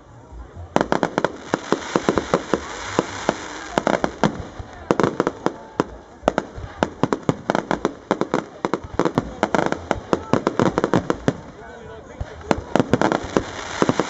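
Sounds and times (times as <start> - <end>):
fireworks bangs and crackles: 0.6 - 14.0
fireworks hissing: 0.8 - 14.0.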